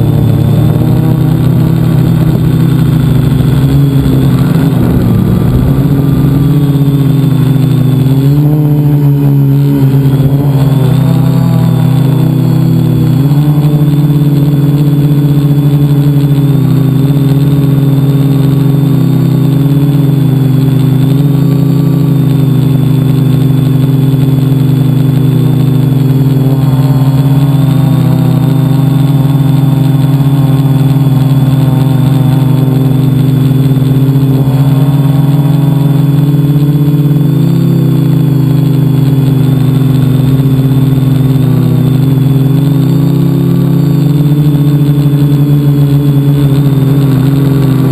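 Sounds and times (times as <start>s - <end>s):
drone motors and propellers whining: 0.0s - 47.9s.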